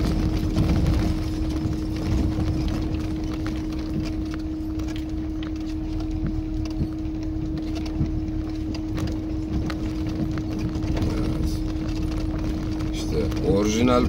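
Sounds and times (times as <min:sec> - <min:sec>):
car engine hum: 0:00.0 - 0:14.0
knocks and rattles from stones: 0:00.0 - 0:14.0
low road rumble: 0:00.0 - 0:14.0.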